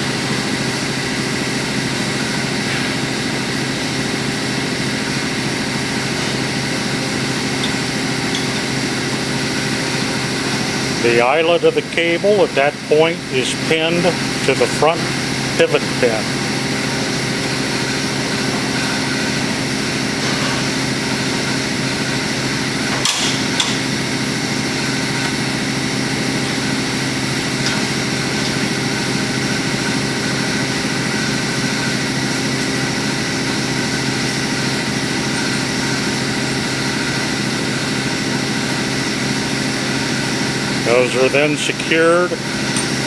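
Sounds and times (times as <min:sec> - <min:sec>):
machine humming: 0:00.0 - 0:43.0.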